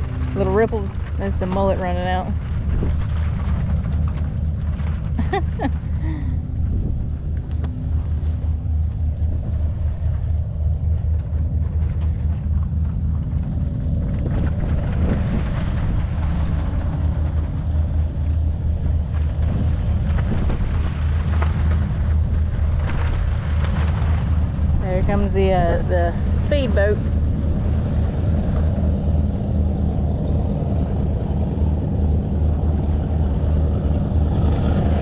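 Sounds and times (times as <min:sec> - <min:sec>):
motorboat engine droning: 0:00.0 - 0:35.0.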